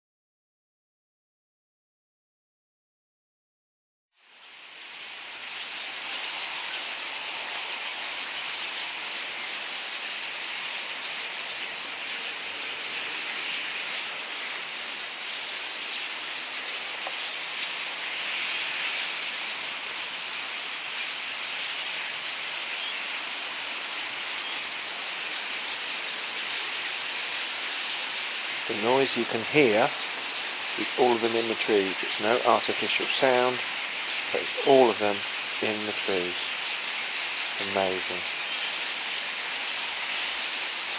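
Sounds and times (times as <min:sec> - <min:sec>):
flock of birds chirping: 0:04.3 - 0:40.9.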